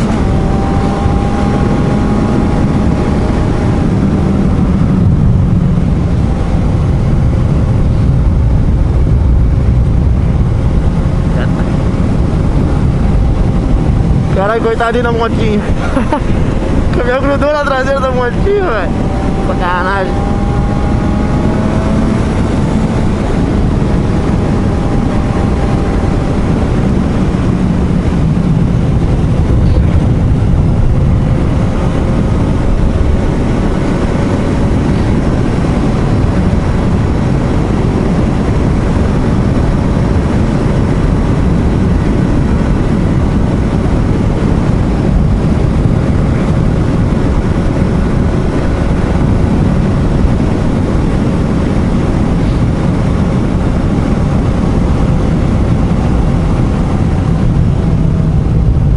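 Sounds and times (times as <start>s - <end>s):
motorcycle engine cruising: 0.0s - 58.9s
wind rushing on microphone: 0.0s - 58.9s.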